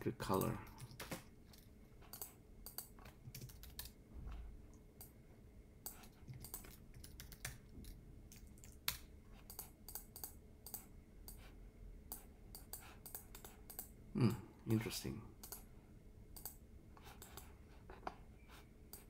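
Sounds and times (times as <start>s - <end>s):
faint keyboard typing: 0.2s - 5.2s, 5.8s - 13.9s, 15.4s - 15.7s, 16.3s - 19.0s.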